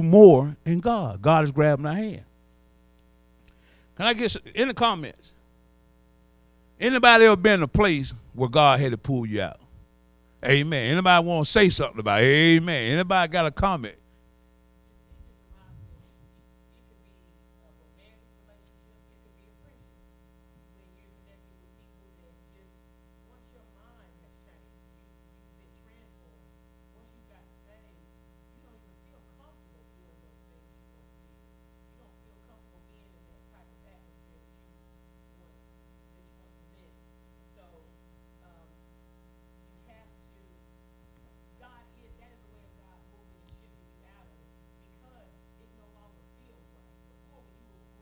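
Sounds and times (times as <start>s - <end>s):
electrical mains hum: 0.0s - 48.0s.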